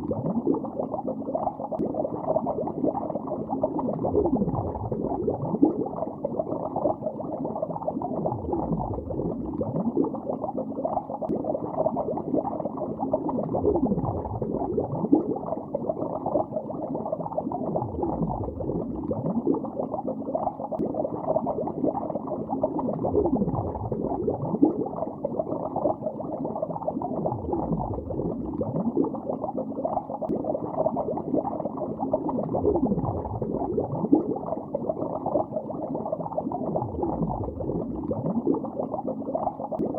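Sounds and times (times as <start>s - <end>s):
muffled underwater bubbling: 0.0s - 39.9s.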